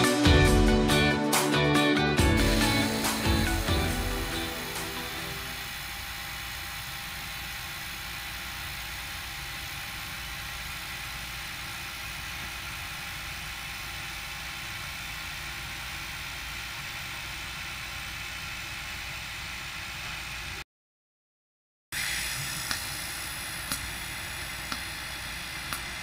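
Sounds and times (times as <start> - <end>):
welding arc hissing: 2.2 - 20.6, 22.0 - 26.0.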